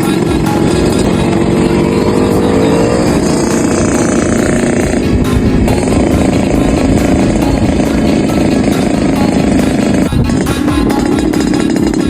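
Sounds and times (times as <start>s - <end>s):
music: 0.0s - 12.0s
two-stroke motorcycle engine: 0.0s - 12.0s.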